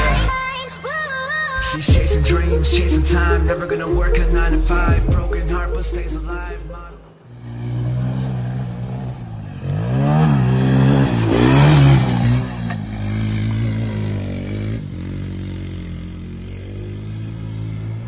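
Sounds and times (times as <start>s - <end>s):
quad engine revving: 1.6s - 18.0s.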